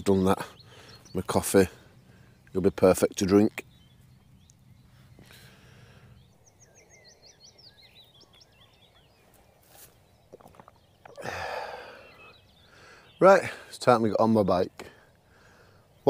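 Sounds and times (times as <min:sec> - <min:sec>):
faint outdoor background: 0:00.0 - 0:16.0
songbird singing: 0:00.0 - 0:16.0.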